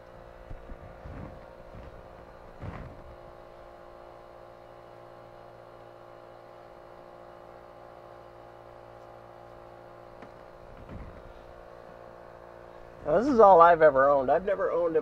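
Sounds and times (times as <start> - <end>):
engine room machinery hum: 0.0 - 15.0.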